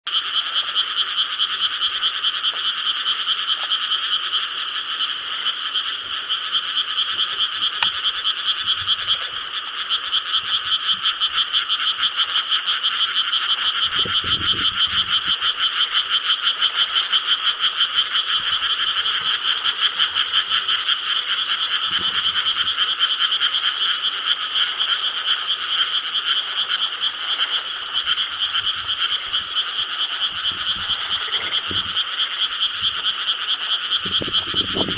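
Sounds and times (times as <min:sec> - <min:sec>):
chorus of frogs croaking: 0:00.1 - 0:34.9.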